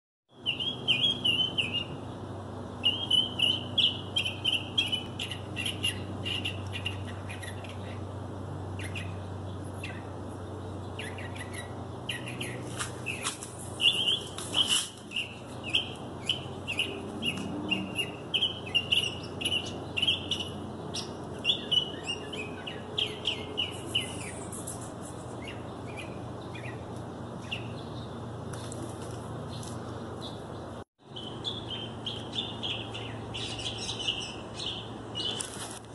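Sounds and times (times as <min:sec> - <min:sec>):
songbird singing: 0:00.3 - 0:35.8
steady low hum: 0:00.3 - 0:35.9.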